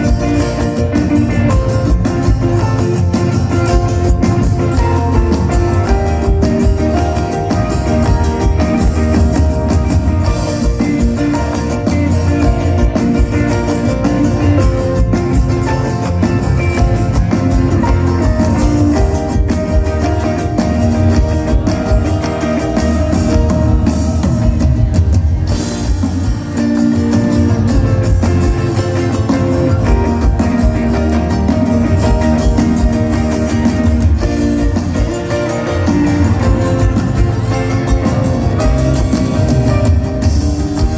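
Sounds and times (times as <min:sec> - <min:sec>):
drums: 0:00.0 - 0:40.9
guitar: 0:00.0 - 0:40.9
live band playing: 0:00.0 - 0:40.9.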